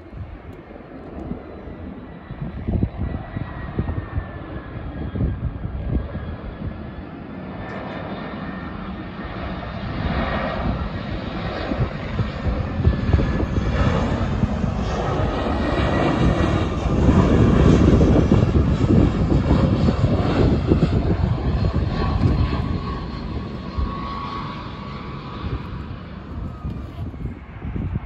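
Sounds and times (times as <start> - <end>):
faint high engine whine: 0.0 - 28.0
jet engines rumbling: 0.0 - 28.0.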